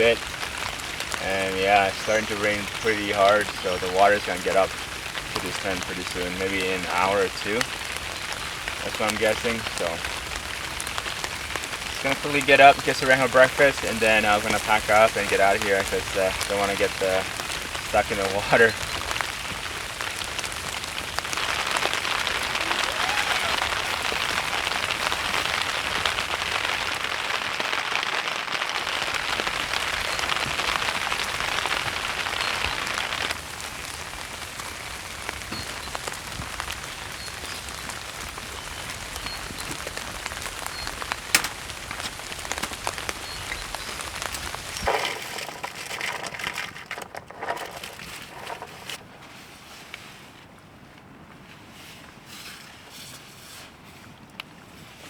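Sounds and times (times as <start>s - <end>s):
heavy rain on a tent: 0.0s - 52.4s.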